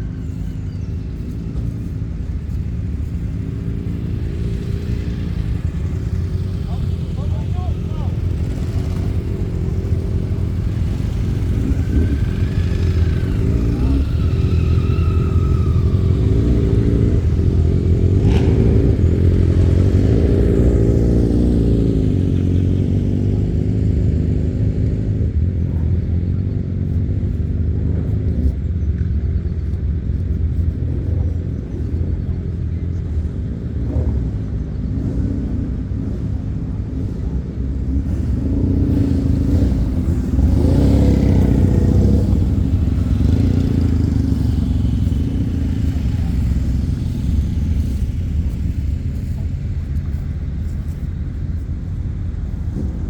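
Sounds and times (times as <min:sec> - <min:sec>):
motorcycle engines rumbling: 0:00.0 - 0:53.0.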